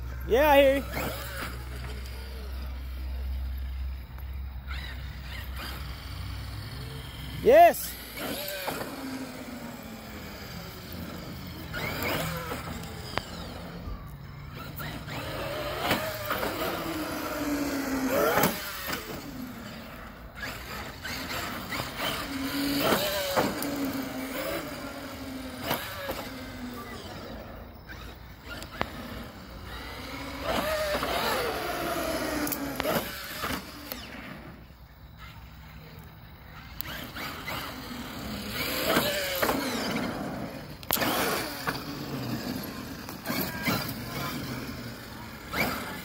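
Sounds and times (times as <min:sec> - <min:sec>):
toy truck motor whining: 0:00.0 - 0:46.0.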